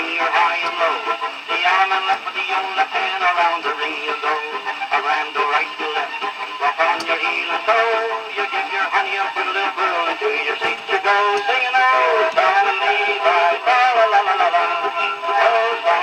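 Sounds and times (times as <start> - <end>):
gramophone record playing music: 0.0 - 16.0.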